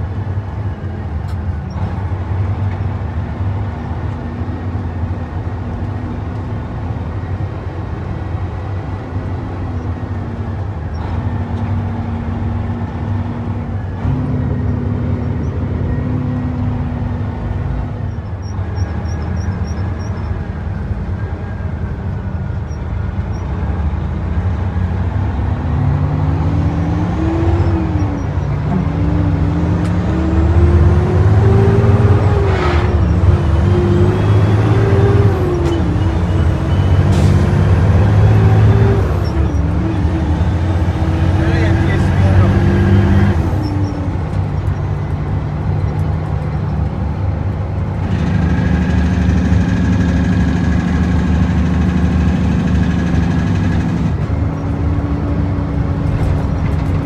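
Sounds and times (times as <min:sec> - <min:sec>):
diesel truck engine running: 0:00.0 - 0:57.0
road noise: 0:00.0 - 0:57.0.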